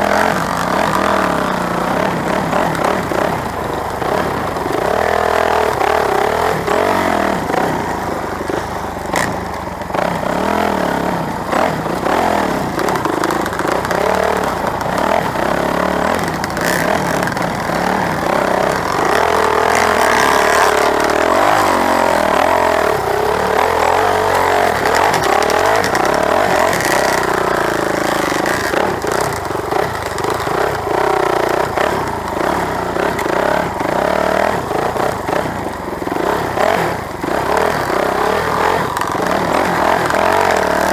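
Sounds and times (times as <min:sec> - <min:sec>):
clatter: 0:00.0 - 0:40.9
motorcycle engine revving: 0:00.0 - 0:40.9.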